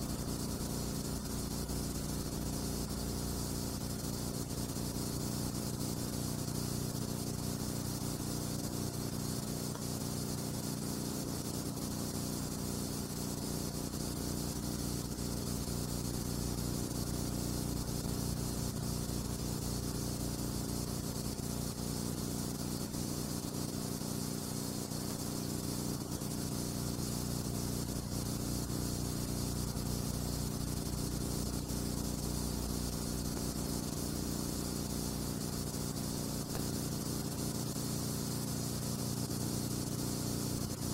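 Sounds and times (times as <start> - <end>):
hiss: 0.0 - 40.9
low electrical hum: 0.0 - 40.9.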